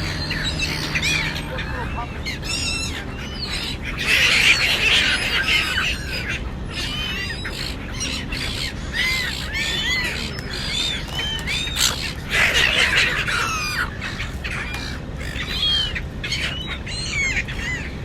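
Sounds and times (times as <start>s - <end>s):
flock of birds squawking: 0.0s - 18.0s.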